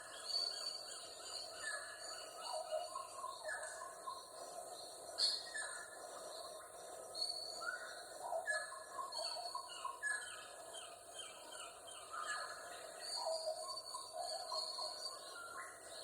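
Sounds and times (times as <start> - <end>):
birds calling and chirping: 0.0 - 16.0.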